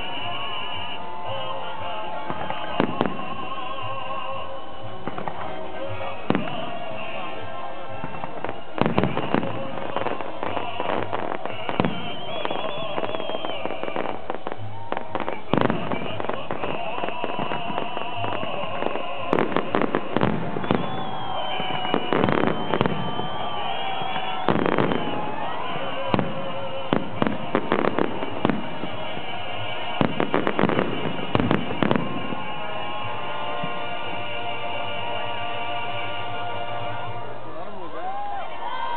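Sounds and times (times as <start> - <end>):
fireworks bangs and crackles: 0.0 - 37.2
steady music: 0.0 - 37.8.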